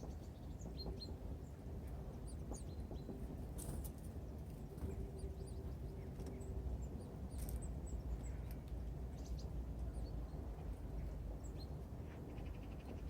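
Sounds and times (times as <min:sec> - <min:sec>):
small birds calling: 0:00.0 - 0:13.0
steady low rumble: 0:00.0 - 0:13.0.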